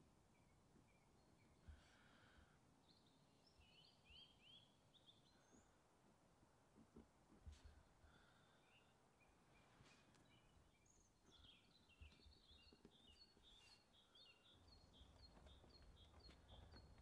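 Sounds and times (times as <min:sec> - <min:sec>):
faint bird chirps: 0:00.0 - 0:05.8, 0:07.6 - 0:17.0.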